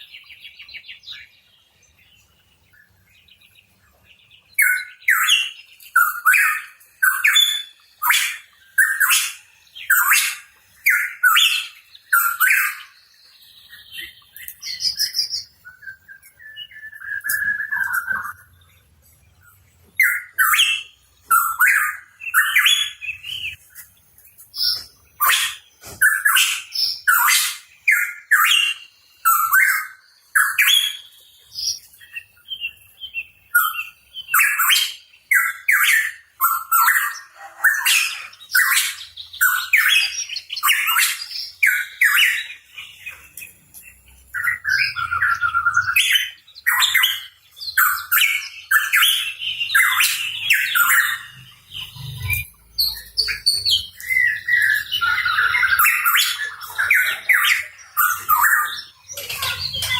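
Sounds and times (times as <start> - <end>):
bird singing chirps and whistles: 0.0 - 23.6, 24.5 - 59.9.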